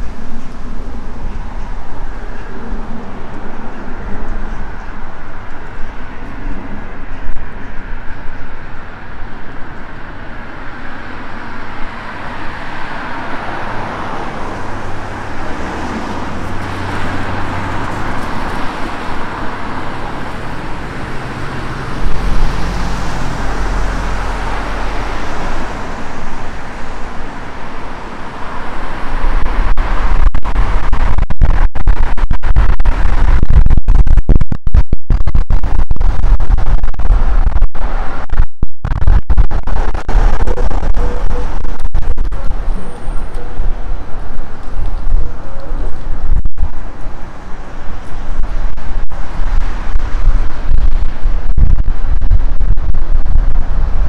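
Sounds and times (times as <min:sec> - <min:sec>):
passing cars: 0:00.0 - 0:31.0, 0:39.7 - 0:54.0
wind buffeting microphone: 0:00.0 - 0:54.0.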